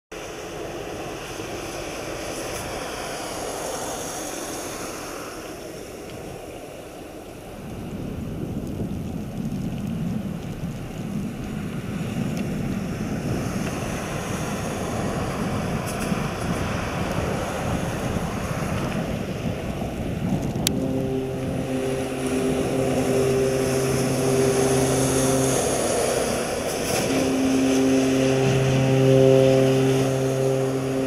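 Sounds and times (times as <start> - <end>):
wind rumbling on microphone: 0.1 - 31.0
car passing close by: 0.2 - 6.1, 11.6 - 31.0.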